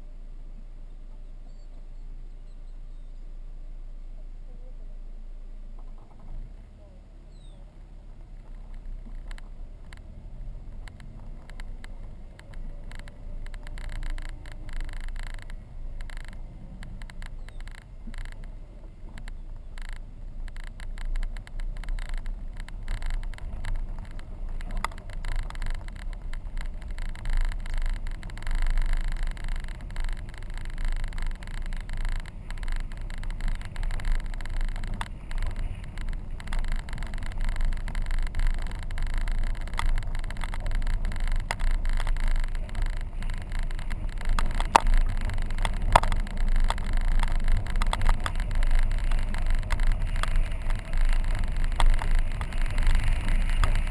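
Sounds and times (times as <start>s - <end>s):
car rumbling on gravel road: 0.0s - 53.9s.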